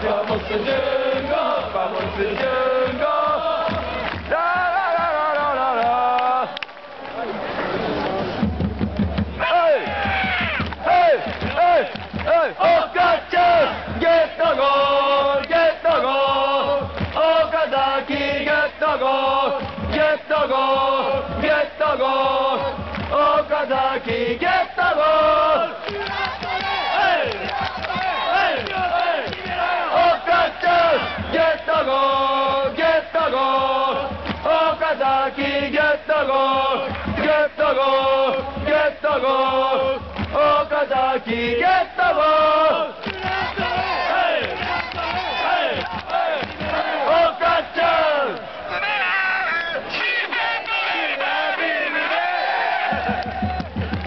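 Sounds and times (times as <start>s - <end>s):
crowd chanting in unison: 0.0s - 8.4s, 9.3s - 54.0s.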